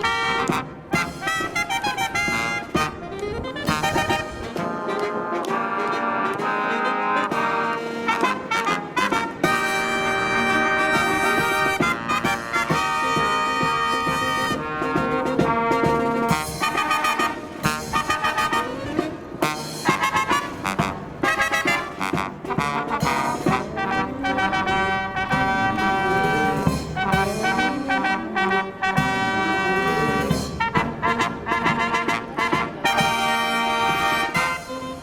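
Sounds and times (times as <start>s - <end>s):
marching brass band: 0.0s - 35.0s.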